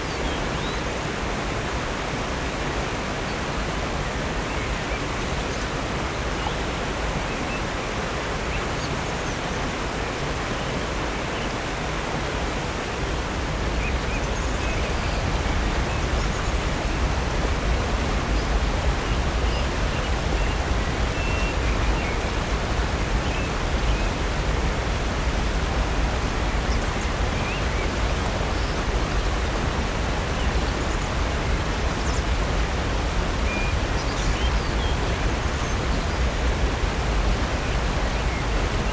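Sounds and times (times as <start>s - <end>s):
rush of falling water: 0.0s - 38.9s.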